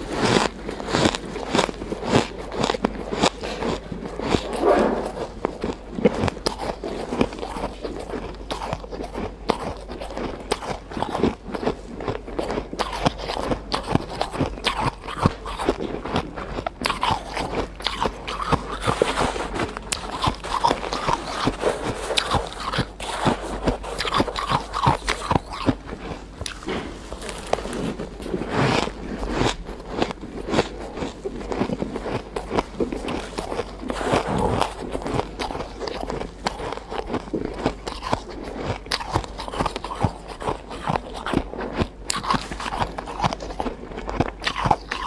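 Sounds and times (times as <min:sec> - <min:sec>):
ice crunching and chewing: 0:00.0 - 0:45.0.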